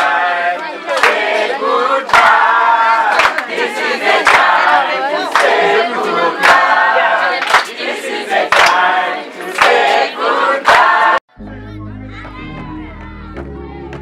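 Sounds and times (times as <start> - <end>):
group of voices singing: 0.0 - 12.2.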